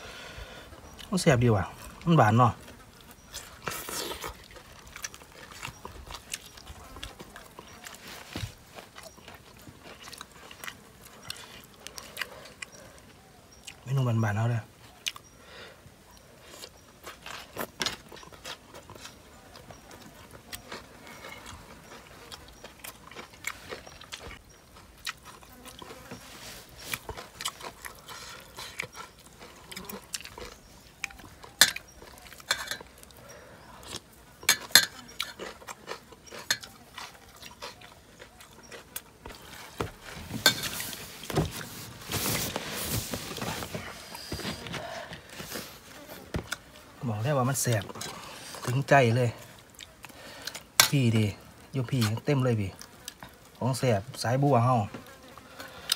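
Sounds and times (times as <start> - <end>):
chewing: 0.9 - 13.9, 14.8 - 15.4, 16.1 - 53.9, 55.0 - 55.9.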